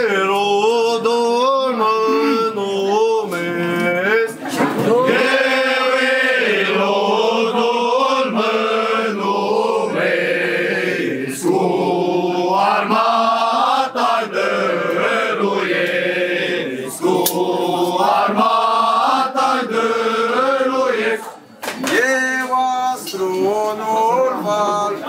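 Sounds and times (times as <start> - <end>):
group chanting a carol: 0.0 - 25.0.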